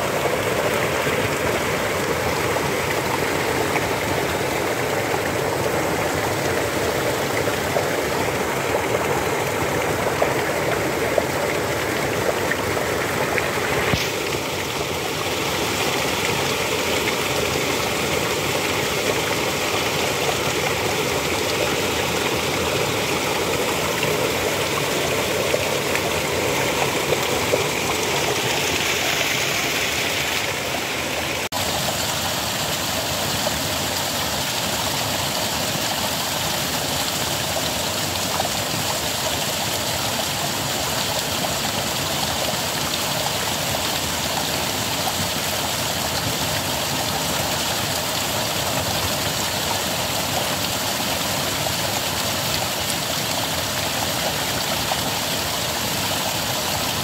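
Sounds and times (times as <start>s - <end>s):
water gushing onto stones: 0.0s - 57.0s.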